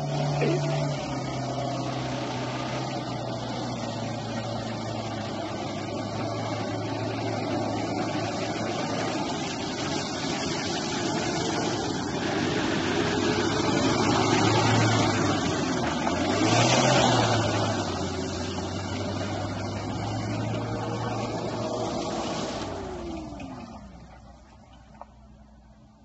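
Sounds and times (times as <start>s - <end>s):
pickup engine revving: 0.0s - 23.9s.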